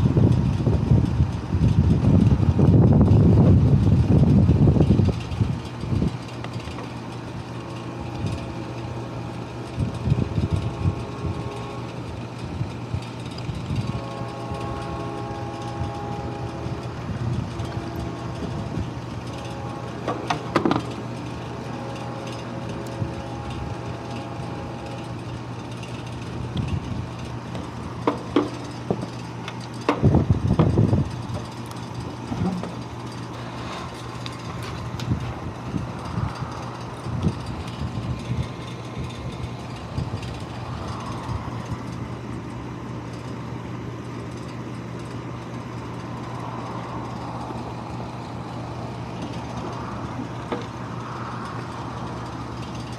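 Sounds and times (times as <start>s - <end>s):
engine and road drone: 0.0s - 52.9s.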